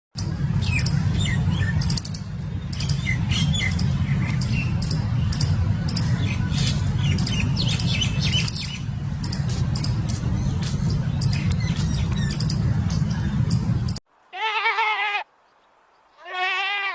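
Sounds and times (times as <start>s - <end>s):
birds chirping: 0.2s - 14.0s
steady low rumble: 0.2s - 14.0s.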